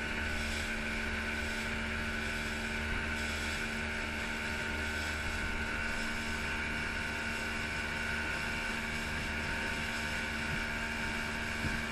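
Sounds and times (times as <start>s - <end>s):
outboard engine running at speed: 0.0s - 11.9s
rushing wake water: 0.0s - 11.9s.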